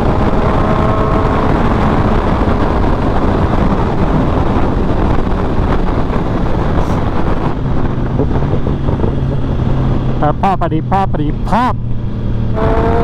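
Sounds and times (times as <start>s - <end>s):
wind buffeting microphone: 0.0s - 10.6s
motorcycle engine running: 0.0s - 10.8s, 11.8s - 13.0s.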